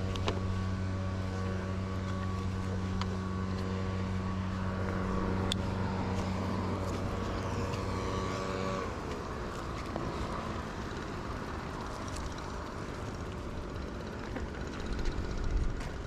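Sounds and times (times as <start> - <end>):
bicycle rolling: 0.0 - 16.0
motor vehicle engine humming: 0.0 - 16.0.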